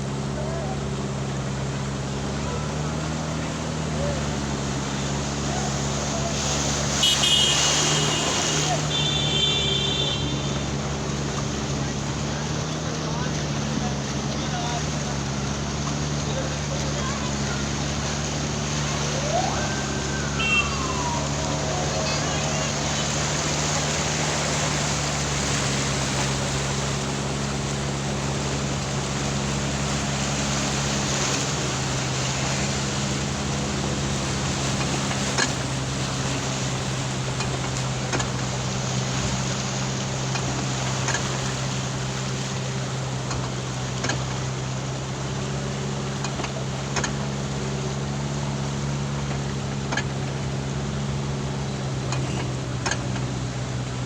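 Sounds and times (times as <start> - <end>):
constant rushing noise: 0.0 - 54.0
vehicle engine humming: 0.0 - 54.0.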